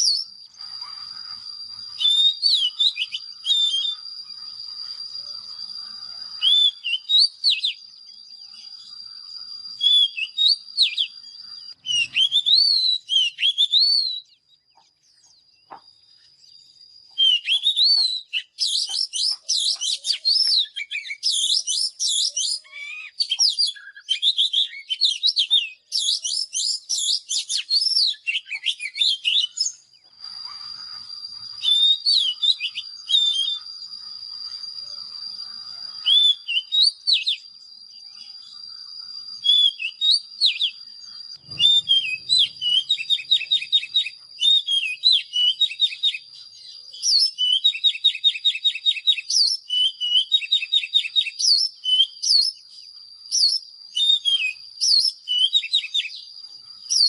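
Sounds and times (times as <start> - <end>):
bird singing whistled trills: 0.0 - 57.0.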